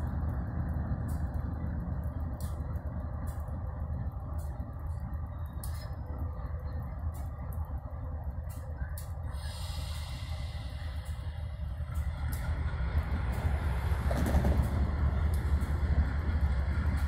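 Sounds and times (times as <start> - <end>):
locomotive diesel engine rumbling: 0.0 - 17.0.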